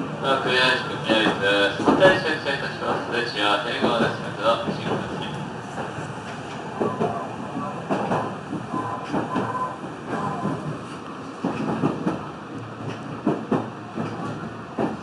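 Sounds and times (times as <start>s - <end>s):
train rumbling: 0.0s - 15.0s
wheels clacking over rail joints: 0.4s - 15.0s.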